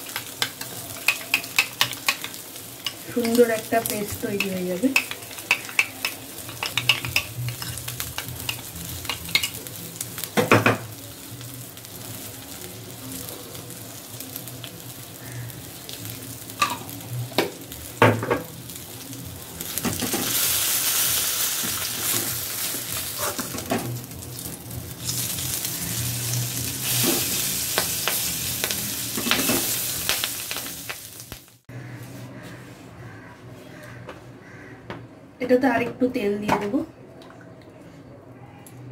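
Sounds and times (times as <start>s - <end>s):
fish sizzling in hot oil: 0.0s - 31.7s.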